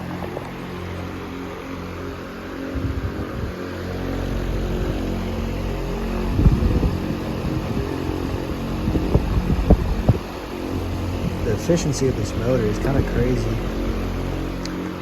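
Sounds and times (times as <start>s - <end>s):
breeze buffeting microphone: 0.0s - 15.0s
table fan running: 0.0s - 15.0s.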